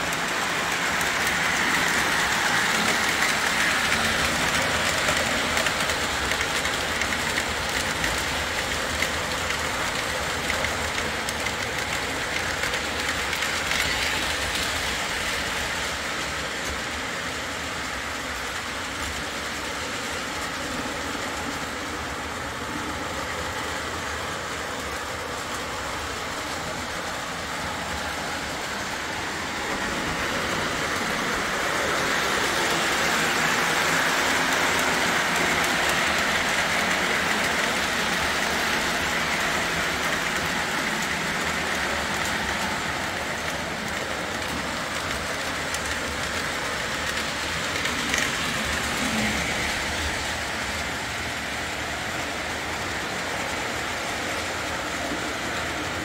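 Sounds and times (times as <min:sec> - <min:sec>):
model train motor and wheels: 0:00.0 - 0:56.0.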